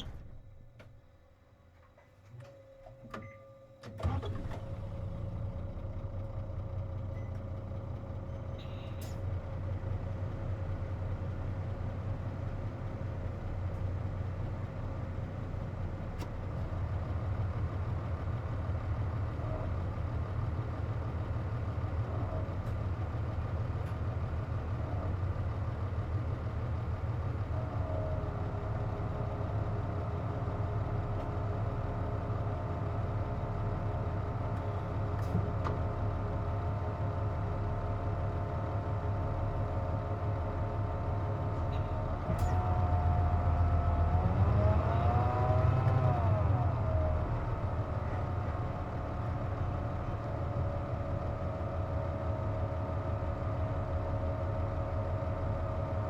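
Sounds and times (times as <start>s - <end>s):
bus diesel engine drone: 0.0s - 2.4s, 3.2s - 56.0s.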